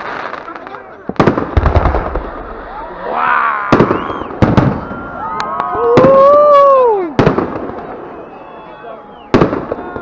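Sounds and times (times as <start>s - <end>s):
fireworks bursting bangs: 0.0s - 8.5s, 9.3s - 10.0s.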